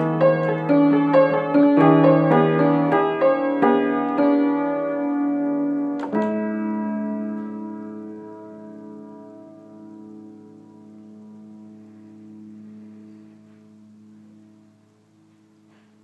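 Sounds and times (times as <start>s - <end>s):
acoustic piano playing: 0.0s - 16.0s.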